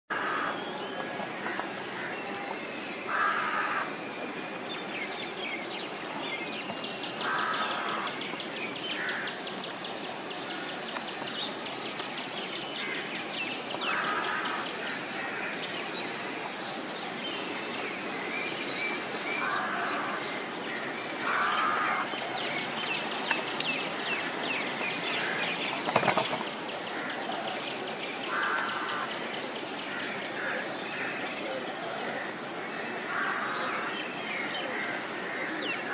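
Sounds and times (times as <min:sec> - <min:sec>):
outdoor background noise: 0:00.1 - 0:35.9.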